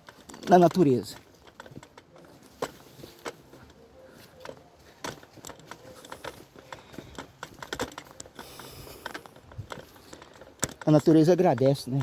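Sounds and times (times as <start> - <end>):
footsteps on forest trail: 0.0 - 12.0.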